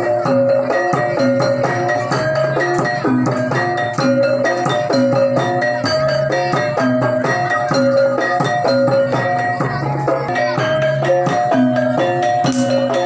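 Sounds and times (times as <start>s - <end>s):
gamelan music: 0.0s - 13.0s.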